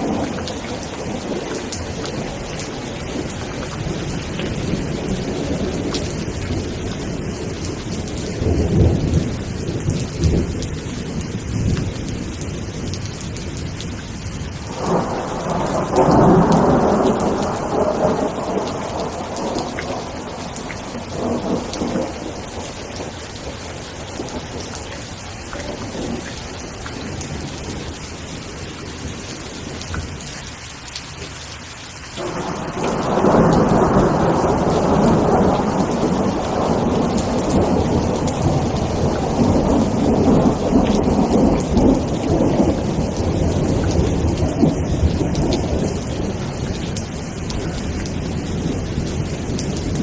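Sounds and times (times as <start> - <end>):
rolling thunder: 0.0 - 14.0, 14.6 - 25.0, 25.6 - 30.2, 32.2 - 50.0
steady rainfall: 0.0 - 50.0.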